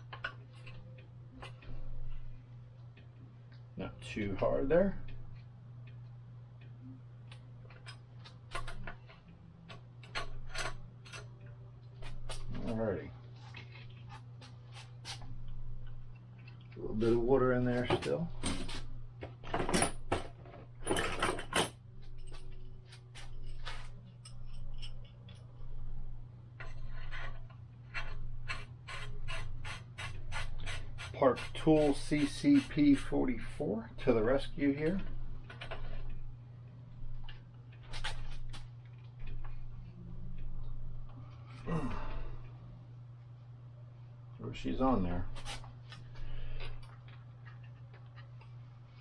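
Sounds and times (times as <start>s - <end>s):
low hum: 0.0s - 49.0s.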